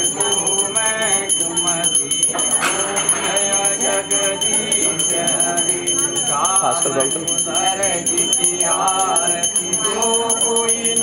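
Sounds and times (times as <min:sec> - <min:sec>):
people singing a devotional hymn: 0:00.0 - 0:11.0
small hand bell ringing rapidly: 0:00.0 - 0:11.0.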